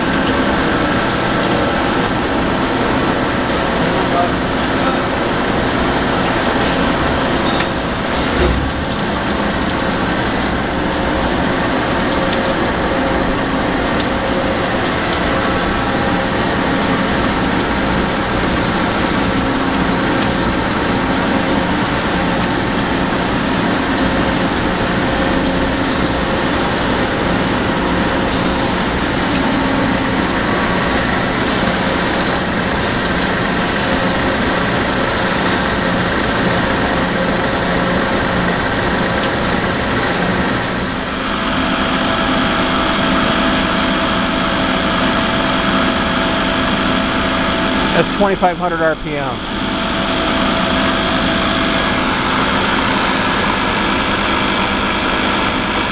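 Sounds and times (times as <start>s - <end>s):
boring mill hum and hiss: 0.0s - 55.9s.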